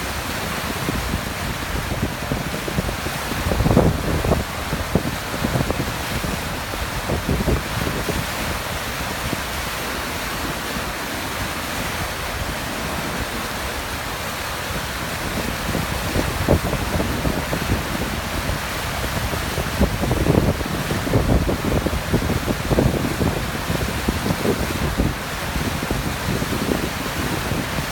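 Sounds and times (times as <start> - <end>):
waterfall roaring: 0.0 - 27.9
wind buffeting microphone: 0.0 - 27.9.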